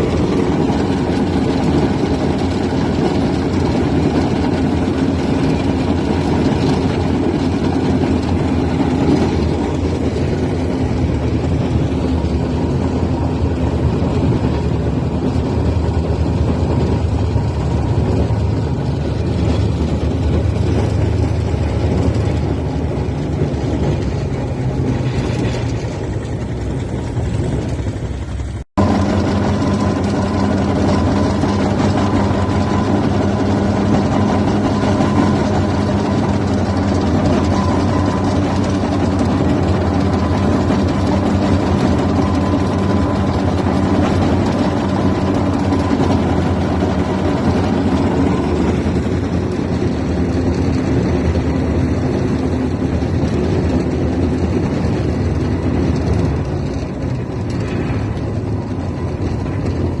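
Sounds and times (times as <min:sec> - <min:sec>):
steam engine running: 0:00.0 - 1:00.0.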